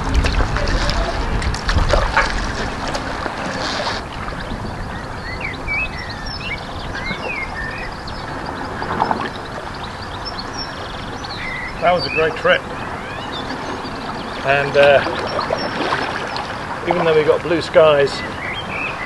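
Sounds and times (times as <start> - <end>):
paddle strokes splashing: 0.0 - 5.7, 6.5 - 18.8
water slapping against kayak: 0.0 - 5.8, 6.5 - 18.8
wind on microphone: 0.0 - 19.0
birds chirping: 2.2 - 19.0.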